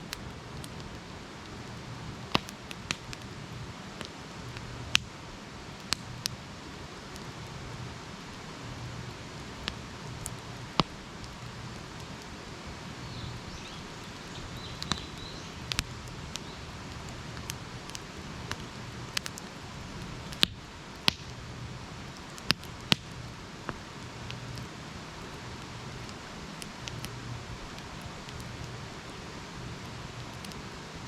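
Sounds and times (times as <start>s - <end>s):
campfire crackling and popping: 0.0s - 31.0s
steady fire hiss: 0.0s - 31.0s.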